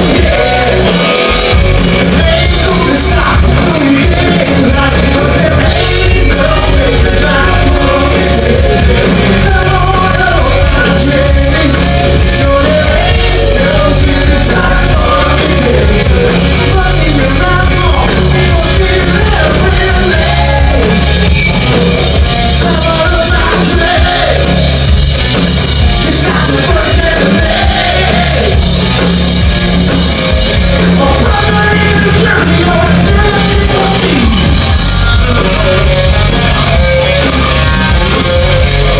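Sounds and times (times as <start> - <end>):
singer: 0.0 - 24.8, 25.8 - 28.7, 30.7 - 38.9
bass guitar: 0.0 - 38.9
drum kit: 0.0 - 38.9
electric guitar: 0.0 - 38.9.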